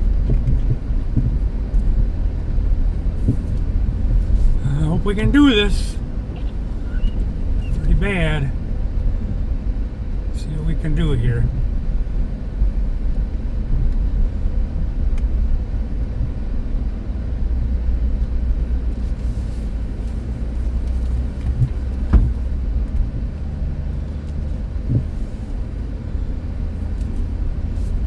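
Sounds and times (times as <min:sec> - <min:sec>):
van interior rumble: 0:00.0 - 0:28.0.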